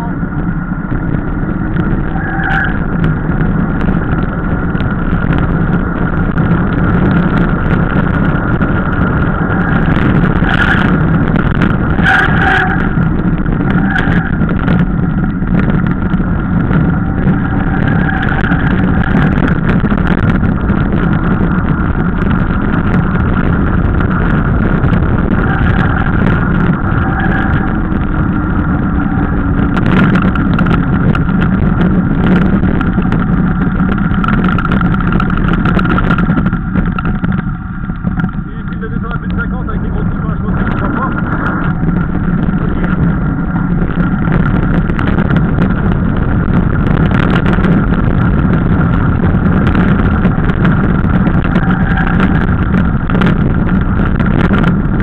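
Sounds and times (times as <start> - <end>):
bike rattling over bumps: 0.0 - 55.0
bike tyre rumble: 0.0 - 55.0
wind rush on microphone: 0.0 - 55.0.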